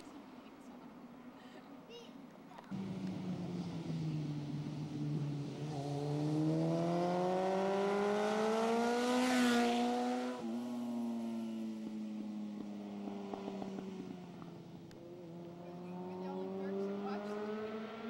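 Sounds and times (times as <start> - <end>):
motorcycle engine accelerating: 2.7 - 18.0.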